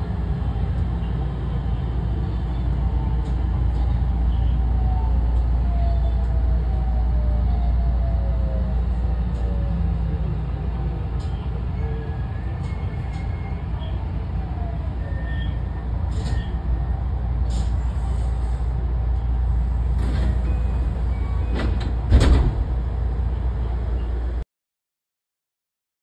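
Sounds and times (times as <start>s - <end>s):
train wheels and motors rumbling: 0.0s - 24.4s.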